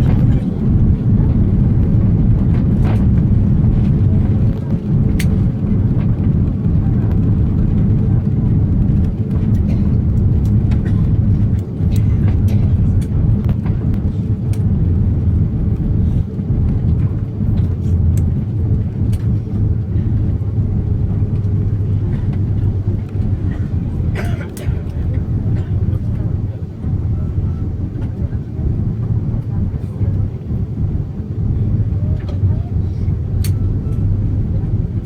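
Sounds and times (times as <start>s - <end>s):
engine and airframe rumble: 0.0s - 35.0s.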